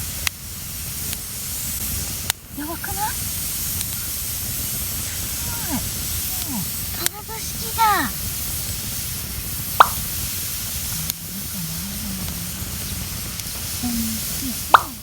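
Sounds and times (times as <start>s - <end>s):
burning wood popping: 0.0s - 15.0s
campfire burning: 0.0s - 15.0s.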